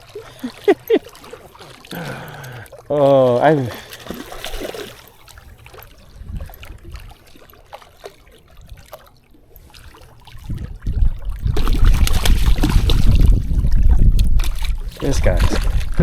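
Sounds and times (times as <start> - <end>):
rough splashing with low rumble: 0.0 - 9.0, 9.6 - 16.0
water trickling and lapping: 0.0 - 16.0.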